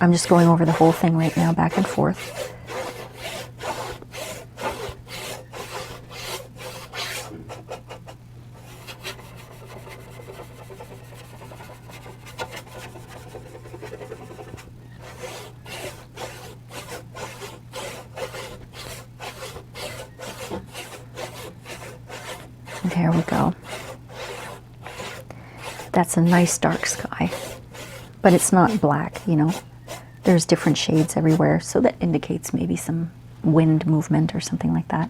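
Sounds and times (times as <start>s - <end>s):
paintbrush scrubbing on paper: 0.0s - 31.6s.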